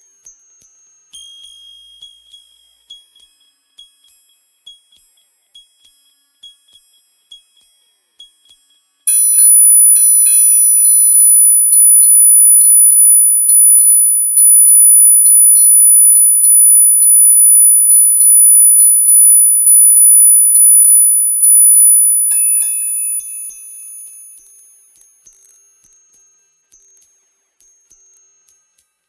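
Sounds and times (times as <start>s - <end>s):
high-pitched ringing tone: 0.0s - 29.0s.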